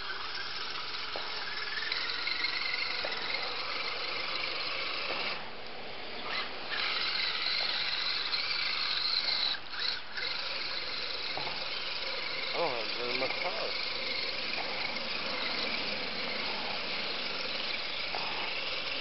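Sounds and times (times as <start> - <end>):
electric motor whining: 0.0 - 19.0
wheels churning through mud: 0.0 - 19.0.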